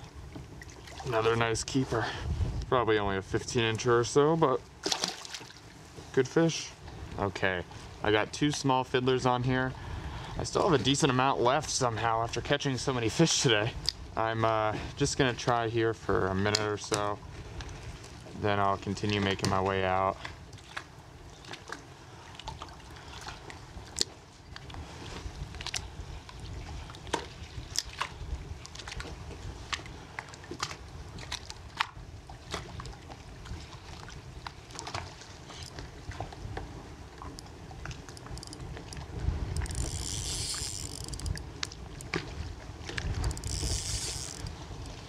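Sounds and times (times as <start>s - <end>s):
water lapping against kayak hull: 0.0s - 3.7s, 4.6s - 15.0s, 16.3s - 45.0s.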